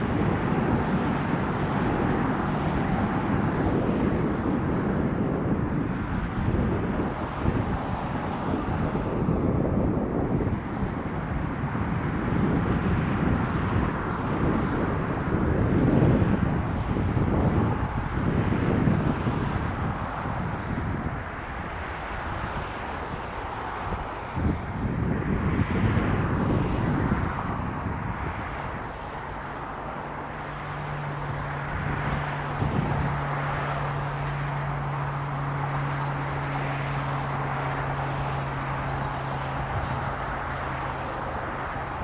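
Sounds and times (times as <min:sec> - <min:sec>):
jet engine rush: 0:00.0 - 0:42.0
wind gusting on the microphone: 0:00.0 - 0:42.0.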